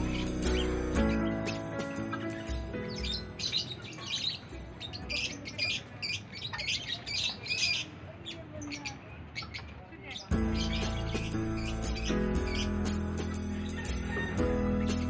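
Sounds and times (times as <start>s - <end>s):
birds chirping and squawking: 0.0s - 15.0s.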